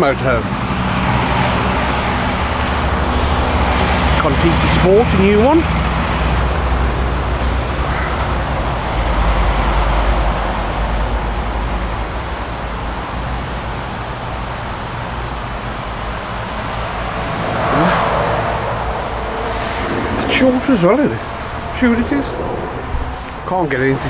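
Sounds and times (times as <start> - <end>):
road traffic rumble: 0.0 - 24.0
vehicle passing: 0.0 - 24.0.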